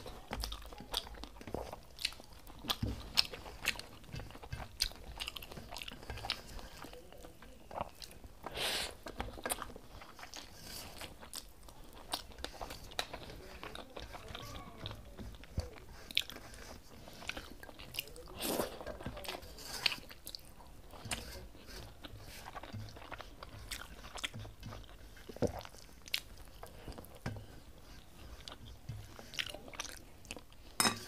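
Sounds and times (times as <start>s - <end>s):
chewing rice with wet smacks: 0.0s - 30.8s.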